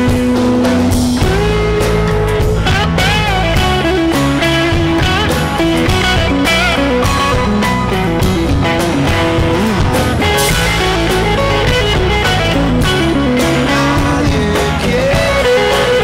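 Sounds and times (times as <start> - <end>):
bass guitar: 0.0 - 16.0
drums: 0.0 - 16.0
electric guitar lead: 0.0 - 16.0.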